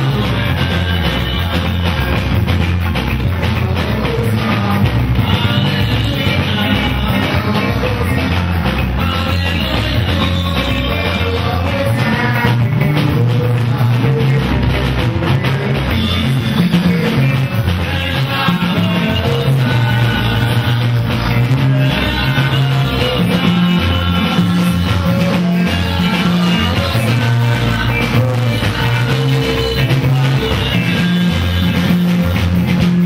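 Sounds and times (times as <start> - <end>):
live band playing: 0.0 - 33.0
man singing lead vocal: 0.0 - 33.0.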